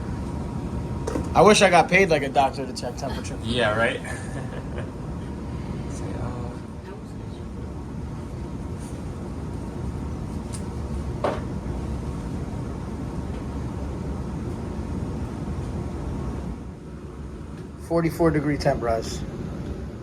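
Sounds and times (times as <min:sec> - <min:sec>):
furnace low rumble: 0:00.0 - 0:20.0.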